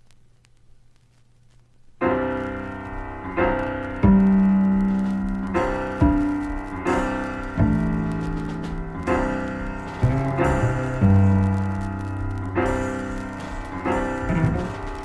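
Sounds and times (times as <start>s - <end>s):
solo jazz piano chords: 2.0s - 15.0s.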